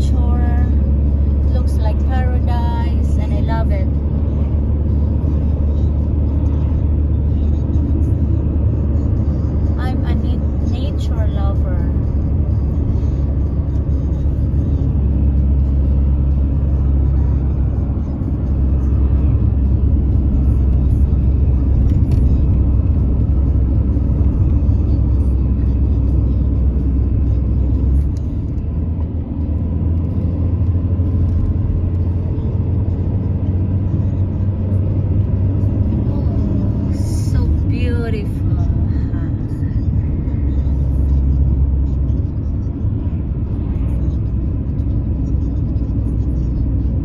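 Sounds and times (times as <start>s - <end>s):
car engine rumble inside cabin: 0.0s - 47.0s.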